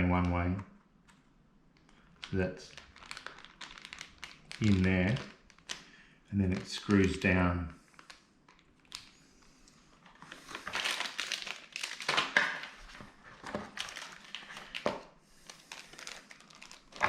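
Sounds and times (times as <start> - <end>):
plastic packaging crinkling: 1.1 - 17.0.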